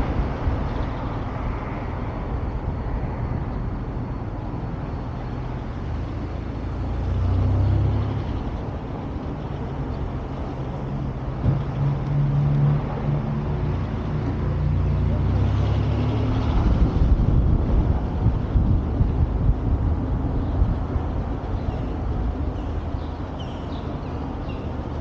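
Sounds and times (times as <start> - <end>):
vehicle engine and tyres rumbling: 0.0 - 25.0.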